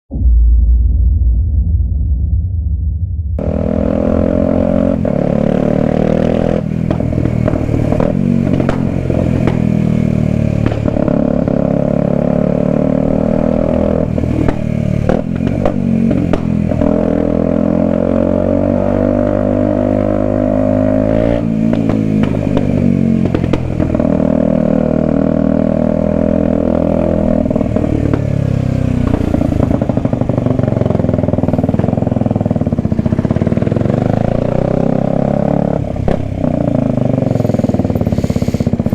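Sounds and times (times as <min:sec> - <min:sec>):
motorcycle engine running: 0:03.4 - 0:38.9.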